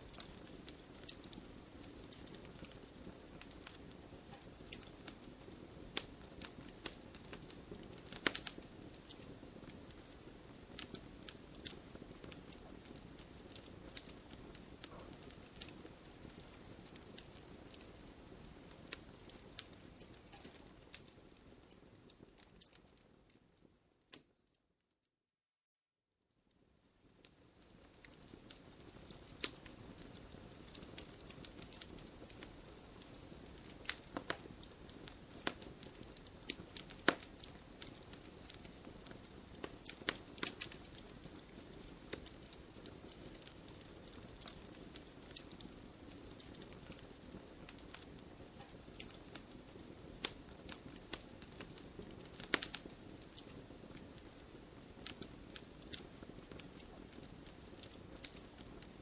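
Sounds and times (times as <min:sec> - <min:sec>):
campfire hissing: 0:00.0 - 0:23.0, 0:27.1 - 0:59.0
wood crackling and popping: 0:00.0 - 0:24.4, 0:26.6 - 0:59.0.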